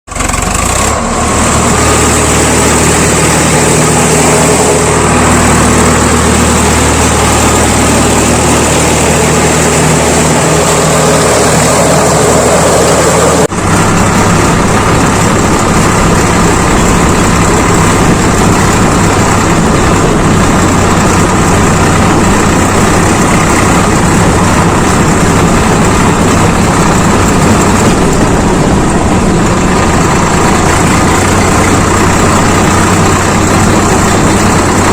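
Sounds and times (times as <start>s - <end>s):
diesel tractor engine running: 0.1s - 34.9s.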